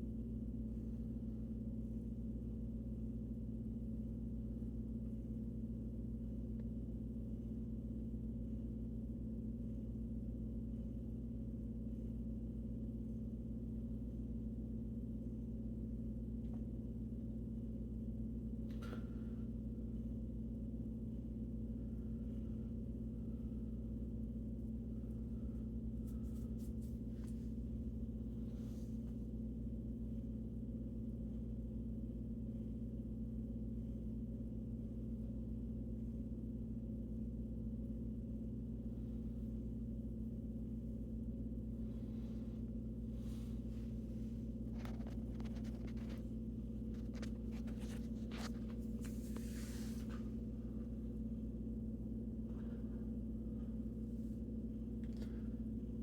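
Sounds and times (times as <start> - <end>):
steady low-pitched hum: 0.0 - 56.0.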